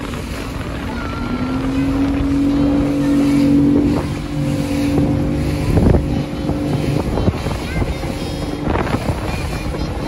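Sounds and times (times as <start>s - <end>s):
boat engine droning: 0.0s - 10.0s
hull thumping on waves: 0.0s - 10.0s
wind on microphone: 0.0s - 10.0s.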